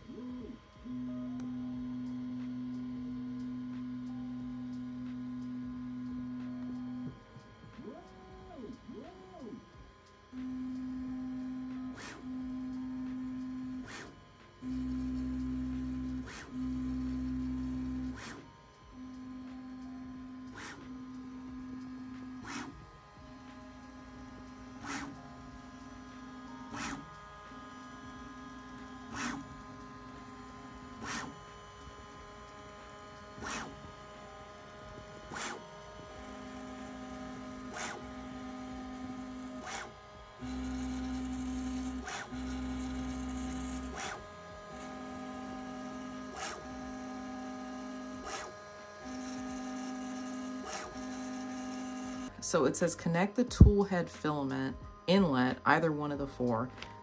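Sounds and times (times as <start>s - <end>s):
stepper motors humming: 0.0s - 53.7s.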